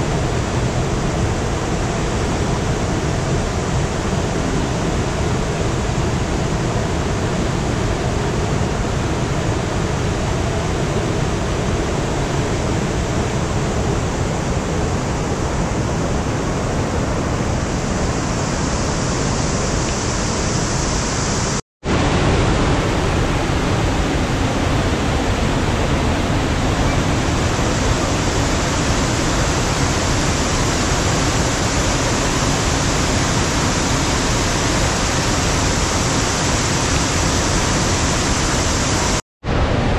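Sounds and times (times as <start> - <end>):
waterfall rushing: 0.0 - 39.2.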